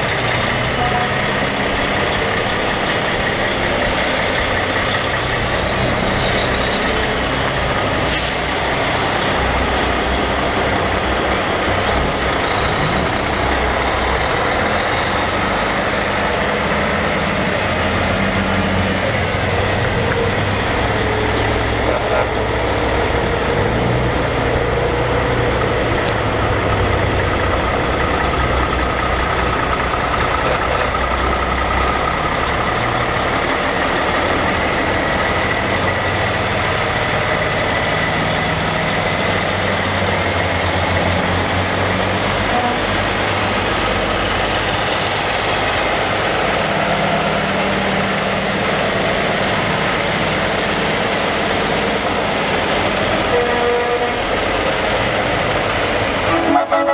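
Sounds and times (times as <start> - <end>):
heavy diesel trucks passing: 0.0 - 56.9.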